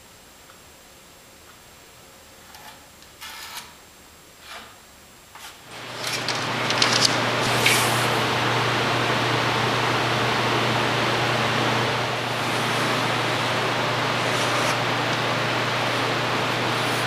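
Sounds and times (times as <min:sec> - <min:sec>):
low machine hum with hiss: 0:00.0 - 0:17.0.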